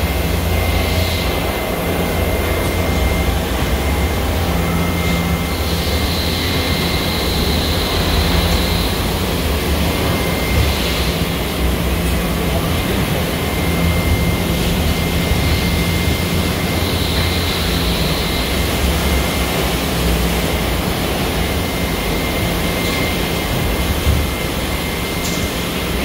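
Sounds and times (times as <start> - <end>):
factory roar: 0.0 - 26.0
thin steady high tone: 0.0 - 26.0.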